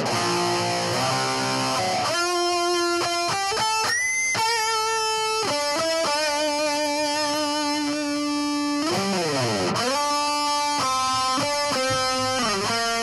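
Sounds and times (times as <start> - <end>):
electric guitar lead melody: 0.0 - 13.0.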